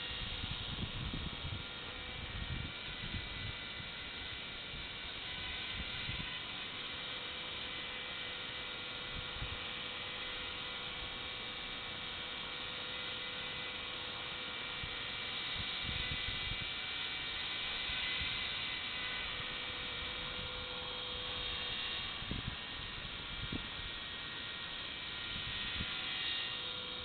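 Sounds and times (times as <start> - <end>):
electric rc helicopter whine: 0.0 - 27.0.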